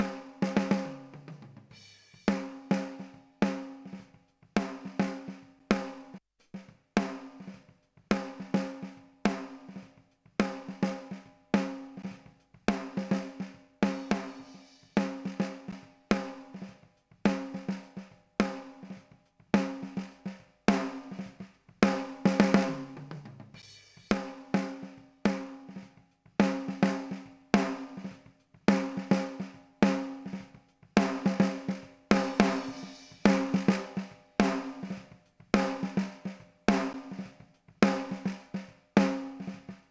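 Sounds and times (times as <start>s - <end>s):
drum kit beat: 0.0s - 39.9s.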